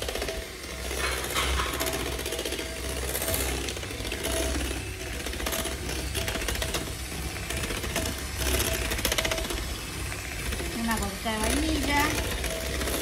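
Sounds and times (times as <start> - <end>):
electric mixer whipping cream: 0.0 - 13.0.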